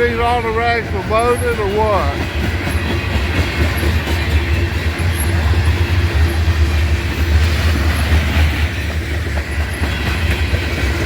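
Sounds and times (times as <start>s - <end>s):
freight train rolling on rails: 0.0s - 11.0s.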